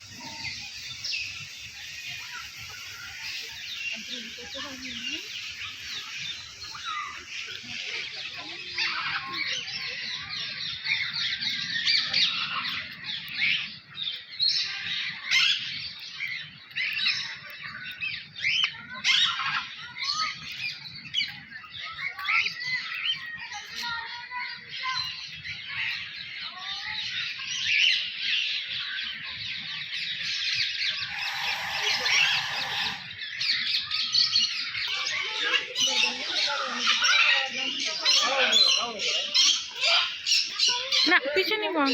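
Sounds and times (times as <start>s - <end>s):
many small birds calling: 0.0s - 41.9s.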